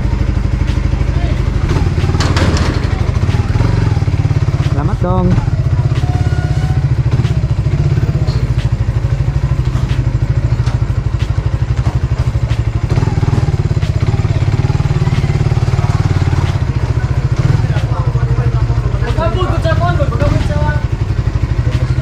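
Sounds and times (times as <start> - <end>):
motorcycle engine putter: 1.6 - 22.0.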